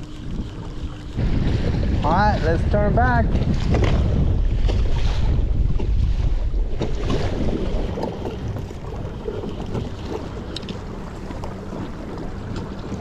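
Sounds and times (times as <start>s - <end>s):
water lapping against kayak hull: 0.0s - 13.0s
wind buffeting microphone: 0.0s - 13.0s.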